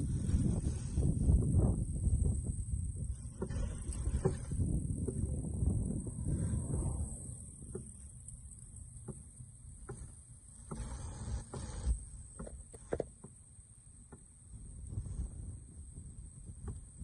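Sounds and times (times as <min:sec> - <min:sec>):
wind rumble on microphone: 0:00.0 - 0:13.0, 0:13.7 - 0:17.0.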